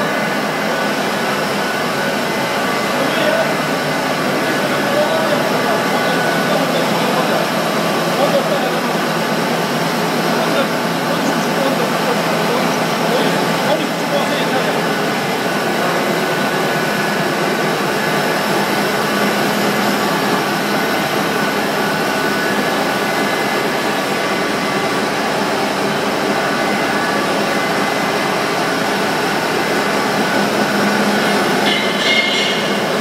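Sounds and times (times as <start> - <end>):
machine whirring: 0.0 - 33.0.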